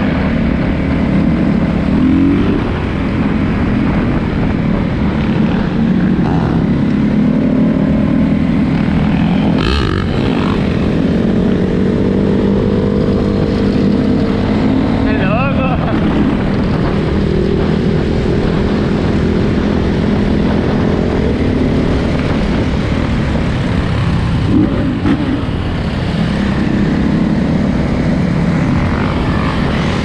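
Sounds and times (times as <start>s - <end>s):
dirt bike engines running: 0.0s - 30.0s.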